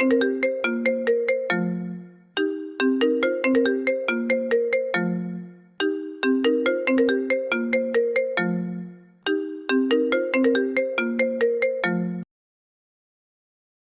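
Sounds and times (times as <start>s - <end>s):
phone ringtone melody: 0.0s - 12.3s.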